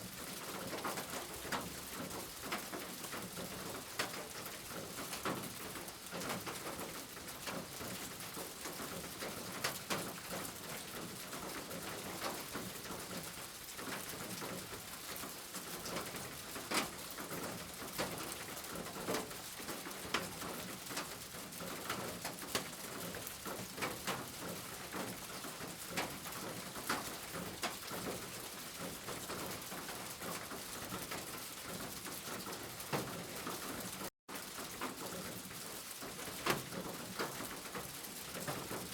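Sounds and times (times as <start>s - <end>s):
raindrops striking close by: 0.0s - 38.9s
steady rain hissing: 0.0s - 38.9s.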